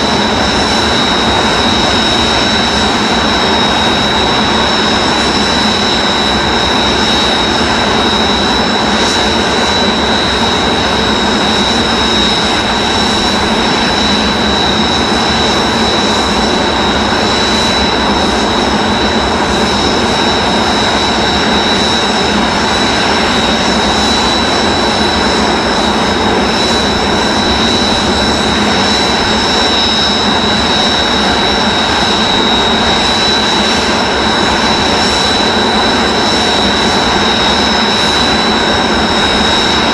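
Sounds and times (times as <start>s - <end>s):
high-pitched jet whine: 0.0s - 39.9s
jet engines roaring: 0.0s - 39.9s.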